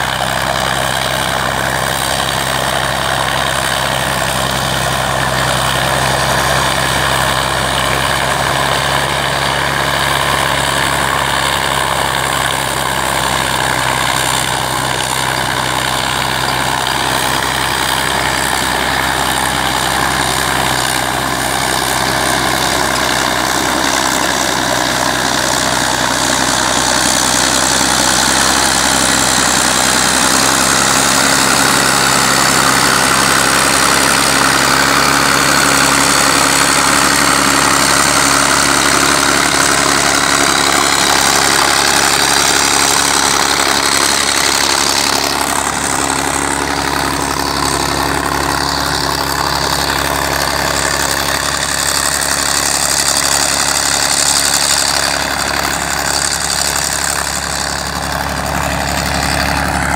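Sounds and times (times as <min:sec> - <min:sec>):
heavy engines under load: 0:00.0 - 0:59.9.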